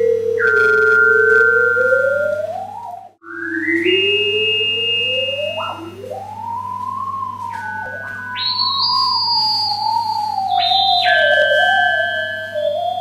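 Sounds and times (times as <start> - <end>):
rising electronic tone: 0.4 - 13.0.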